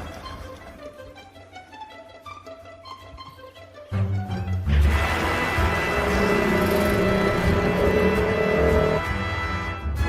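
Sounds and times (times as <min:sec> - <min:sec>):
tense dark background music: 0:00.0 - 0:10.0.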